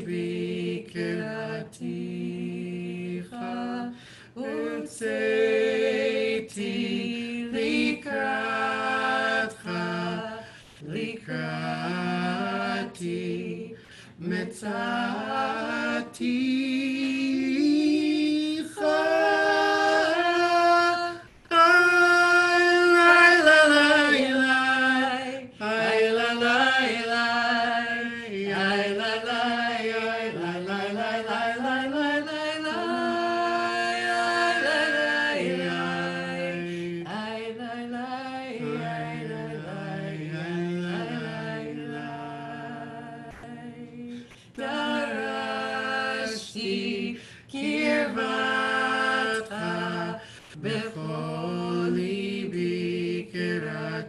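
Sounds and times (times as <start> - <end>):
unaccompanied liturgical singing: 0.0 - 54.0.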